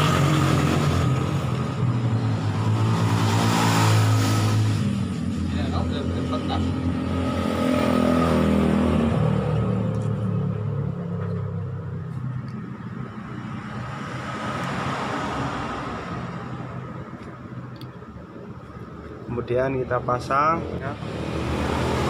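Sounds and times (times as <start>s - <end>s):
passing vehicle noise: 0.0s - 22.0s.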